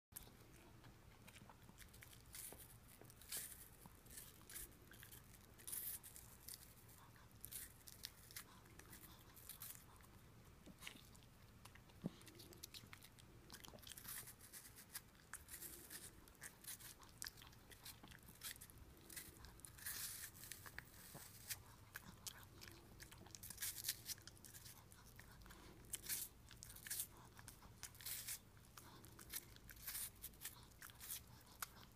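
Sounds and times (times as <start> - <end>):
dog crunching apple: 0.2 - 31.9.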